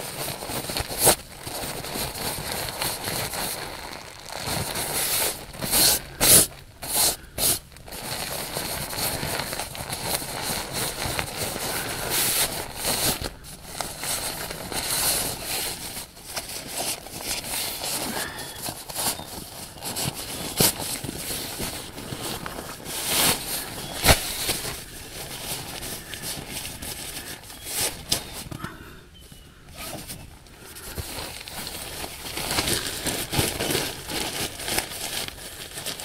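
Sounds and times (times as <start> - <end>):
fabric rustling and crinkling: 0.0 - 36.0.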